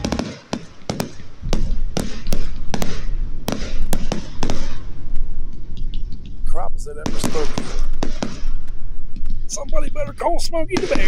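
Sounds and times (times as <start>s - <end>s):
fireworks bursting with sharp bangs: 0.0s - 11.0s.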